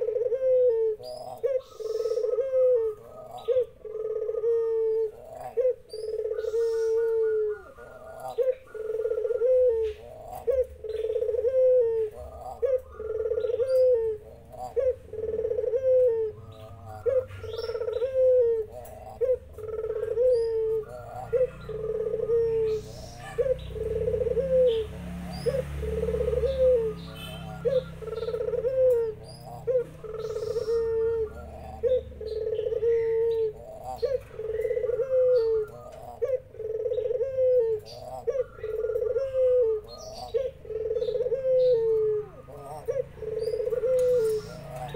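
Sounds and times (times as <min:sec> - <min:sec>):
birds chirping: 0:00.0 - 0:44.9
doves cooing: 0:00.0 - 0:44.9.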